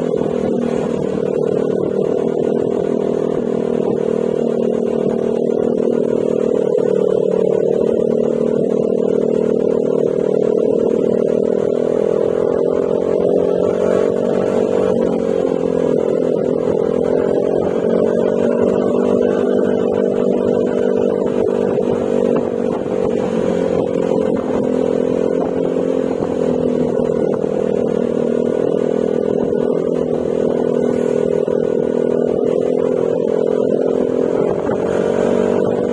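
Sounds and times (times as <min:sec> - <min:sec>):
scooter engine cruising: 0:00.0 - 0:35.9.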